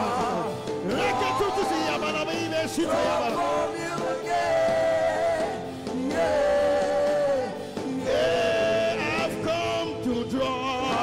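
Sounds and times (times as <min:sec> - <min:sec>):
instrumental accompaniment: 0:00.0 - 0:11.0.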